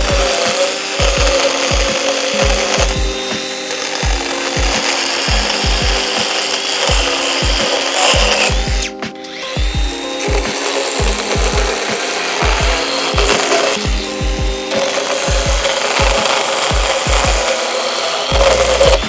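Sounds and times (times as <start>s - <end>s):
backing music with heavy beat: 0.0s - 17.6s, 18.2s - 19.0s
chainsaw cutting timber: 0.0s - 19.0s.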